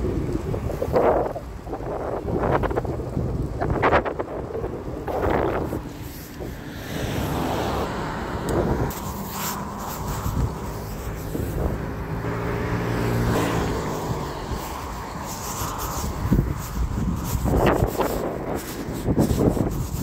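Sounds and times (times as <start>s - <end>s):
vehicle engine humming: 0.0s - 20.0s
wind and road noise: 0.0s - 20.0s.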